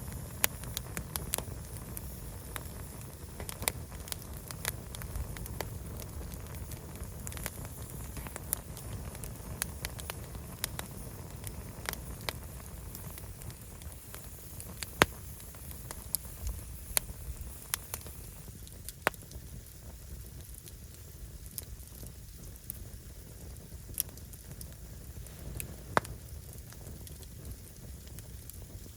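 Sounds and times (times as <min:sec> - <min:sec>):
fire rumbling: 0:00.0 - 0:28.9
logs crackling and popping: 0:00.0 - 0:28.9.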